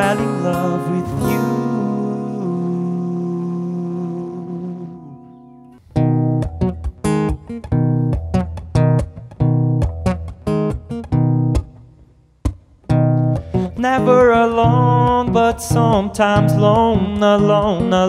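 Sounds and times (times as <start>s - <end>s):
acoustic guitar chords strummed: 0.0s - 18.0s.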